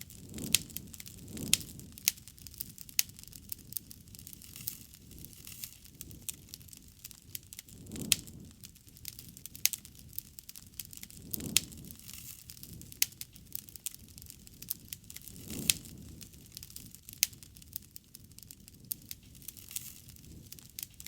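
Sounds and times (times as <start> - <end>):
campfire crackling: 0.0 - 21.0
fire pops and snaps: 0.0 - 21.0
low rush of flame: 0.0 - 21.0.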